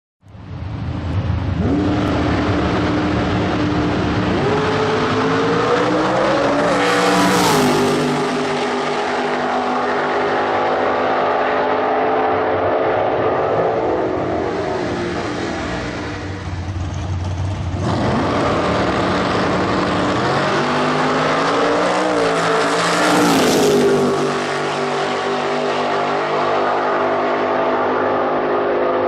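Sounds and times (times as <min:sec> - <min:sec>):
drag car engine roaring: 0:00.3 - 0:29.0.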